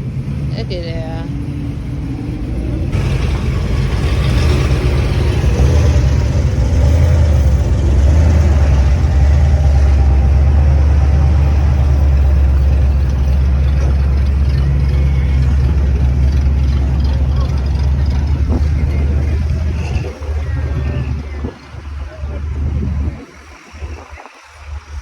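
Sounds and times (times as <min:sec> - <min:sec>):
car engine exhaust rumble: 0:00.0 - 0:25.0.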